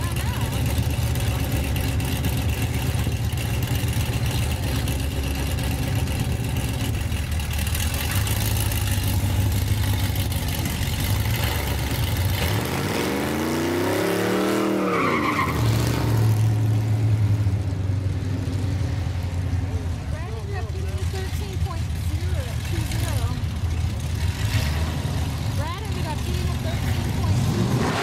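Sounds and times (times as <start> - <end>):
drag car engine rumbling and revving: 0.0 - 28.0.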